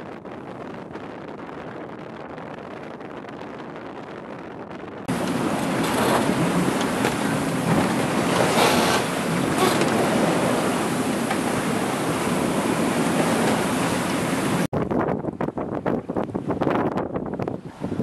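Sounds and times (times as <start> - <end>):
rough sea rushing: 0.0 - 18.0
strong wind: 0.0 - 18.0.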